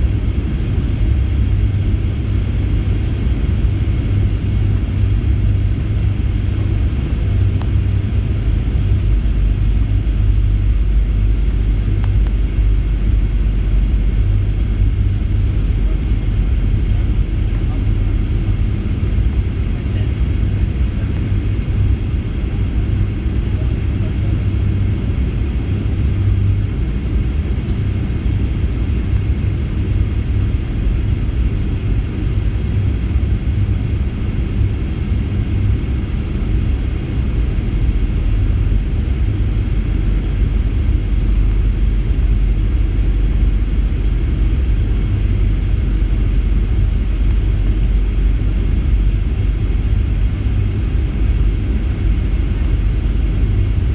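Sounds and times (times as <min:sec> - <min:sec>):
airplane cabin engine rumble: 0:00.0 - 0:53.9.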